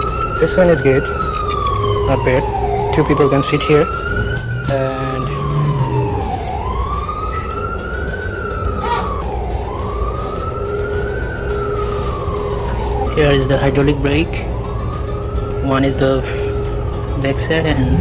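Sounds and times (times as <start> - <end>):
emergency vehicle siren wailing: 0.0 - 18.0.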